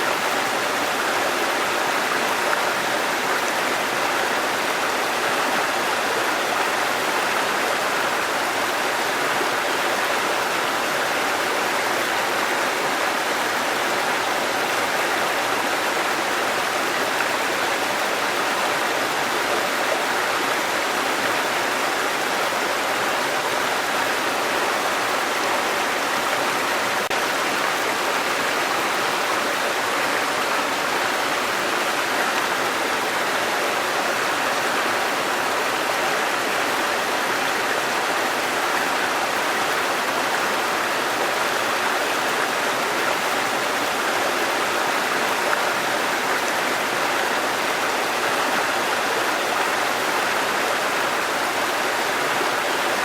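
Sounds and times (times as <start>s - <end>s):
waterfall: 0.0s - 53.0s.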